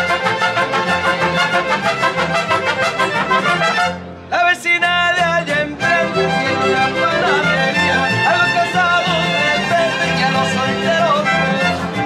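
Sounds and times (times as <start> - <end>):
violins playing melody: 0.0 - 4.2, 5.6 - 12.0
strummed guitars: 0.0 - 12.0.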